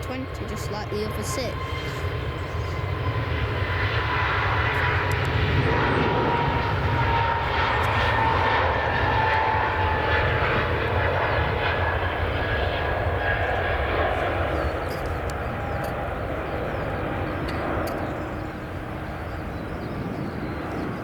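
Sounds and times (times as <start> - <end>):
jet engines rumbling with high whine: 0.0 - 21.0.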